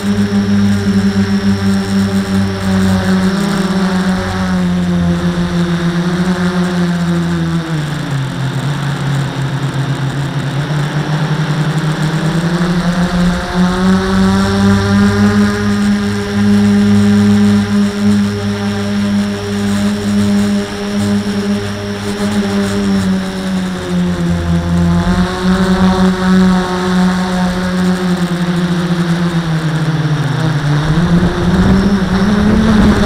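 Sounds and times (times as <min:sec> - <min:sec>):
quadcopter propellers buzzing: 0:00.0 - 0:33.0.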